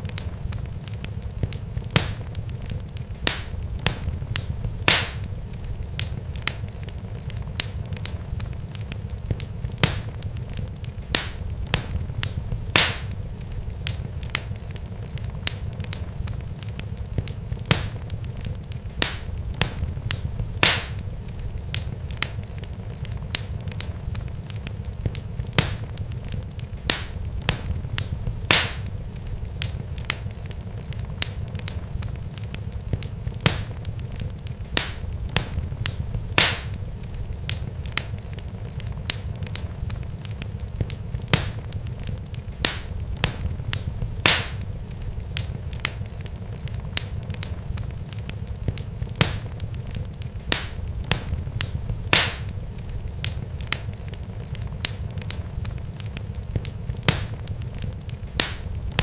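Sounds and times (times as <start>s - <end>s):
sharp crackles and pops: 0.0s - 59.0s
steady low rumble: 0.0s - 59.0s.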